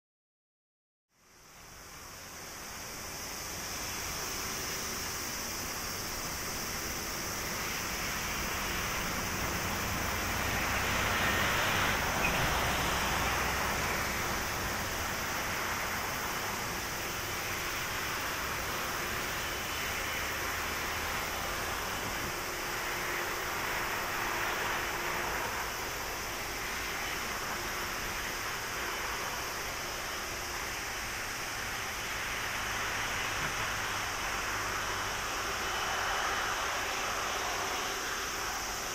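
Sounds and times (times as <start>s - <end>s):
jet engines at taxi power: 1.1s - 38.9s.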